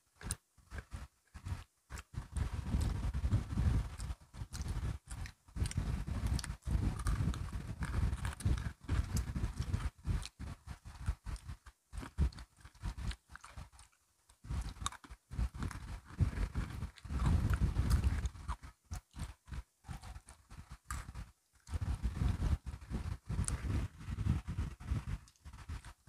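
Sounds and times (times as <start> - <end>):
crunching and chewing biscuit sticks: 0.0 - 26.0.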